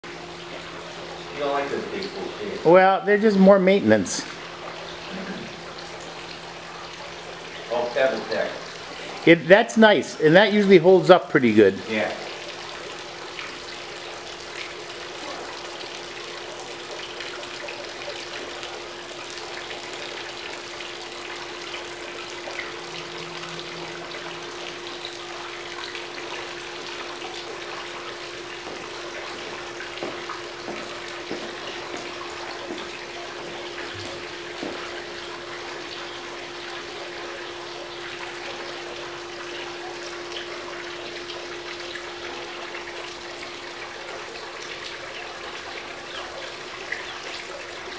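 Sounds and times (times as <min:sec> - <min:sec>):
steady hum: 0:00.0 - 0:47.9
fountain water splashing into pool: 0:00.1 - 0:47.9.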